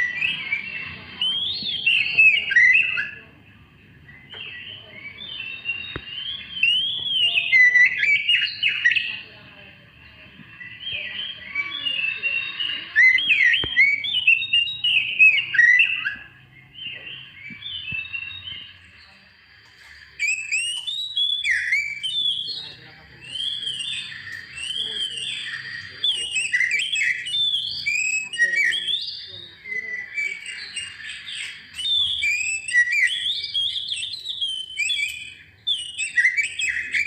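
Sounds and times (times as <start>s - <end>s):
songbird singing whistles and chirps: 0.0s - 37.0s.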